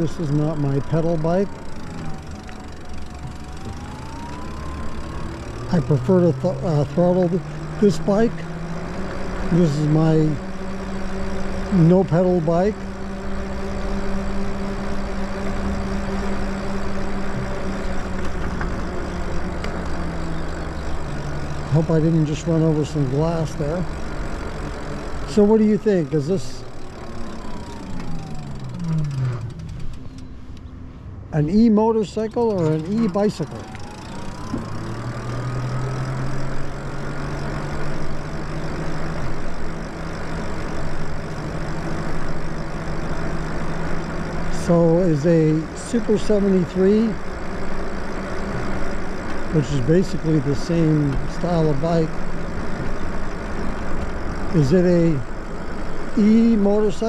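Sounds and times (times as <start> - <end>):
electric bike motor hum: 0.0 - 57.0
faint high whine: 0.0 - 57.0
road noise: 0.0 - 57.0.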